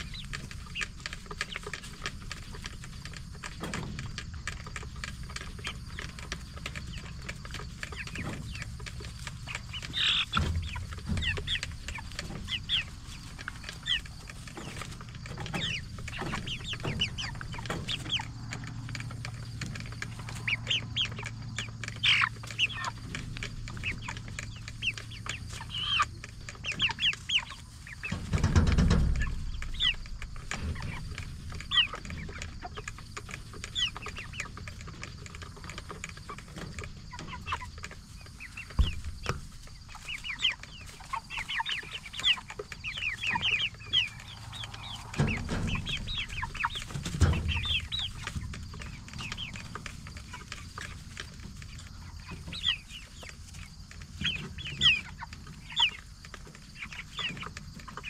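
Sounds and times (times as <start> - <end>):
chickens clucking and peeping: 0.0 - 58.0.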